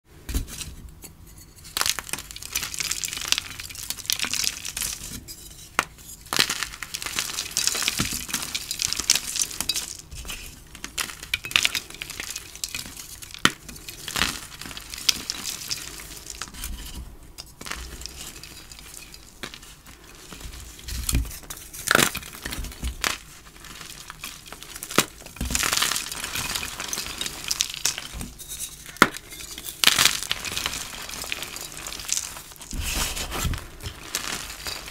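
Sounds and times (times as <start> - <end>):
chalk blocks crunching: 1.6 - 34.9.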